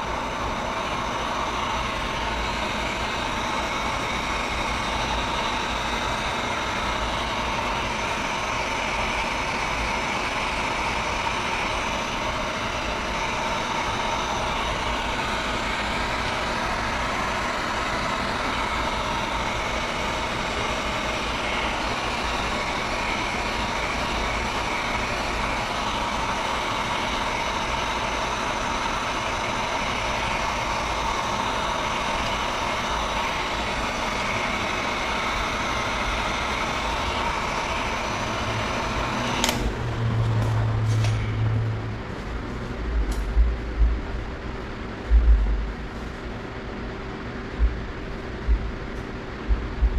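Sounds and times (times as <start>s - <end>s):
heat gun fan whining: 0.0s - 49.9s.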